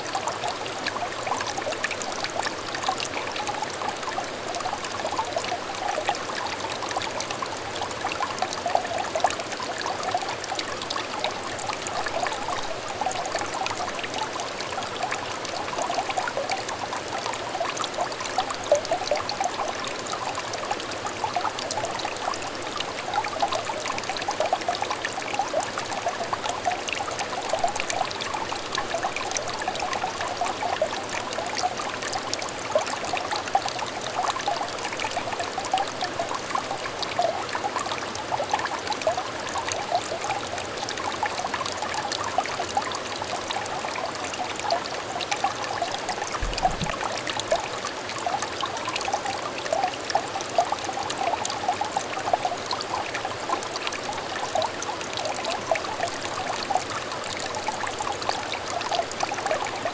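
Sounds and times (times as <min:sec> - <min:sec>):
small stream babbling: 0:00.0 - 0:59.9.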